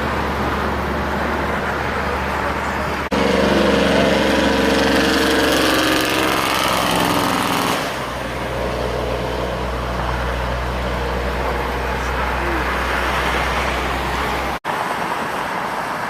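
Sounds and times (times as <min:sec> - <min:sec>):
truck diesel engine running: 0:00.0 - 0:14.6
traffic rumble: 0:00.0 - 0:16.0.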